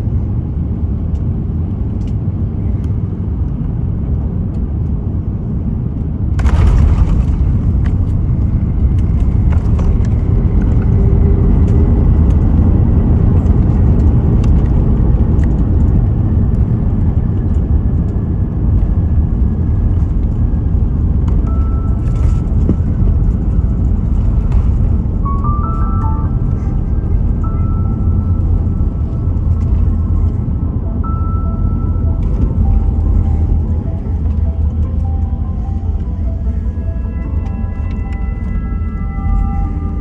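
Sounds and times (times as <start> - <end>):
airplane cabin engine rumble: 0.0 - 40.0.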